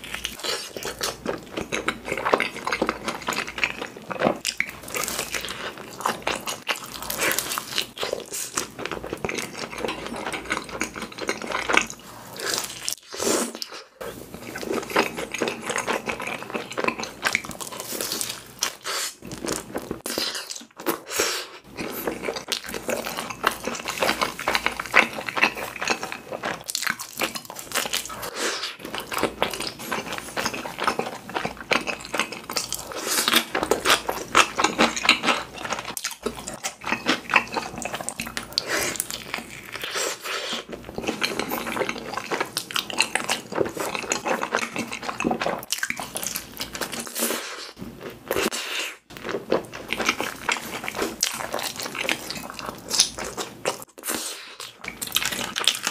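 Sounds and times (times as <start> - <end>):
person chewing pizza: 0.0 - 55.9.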